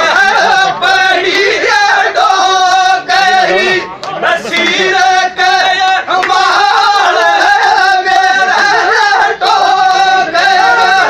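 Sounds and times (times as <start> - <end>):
men singing folk song: 0.0 - 11.0.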